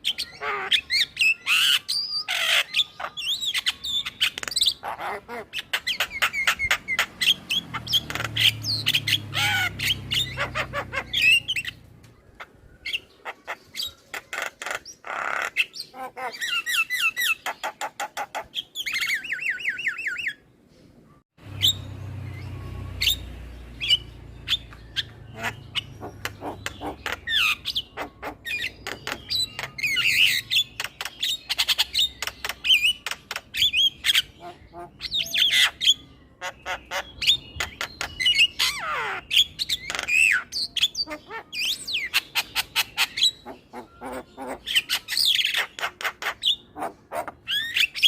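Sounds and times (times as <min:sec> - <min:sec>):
myna bird chattering: 0:00.0 - 0:20.4, 0:21.5 - 0:48.0.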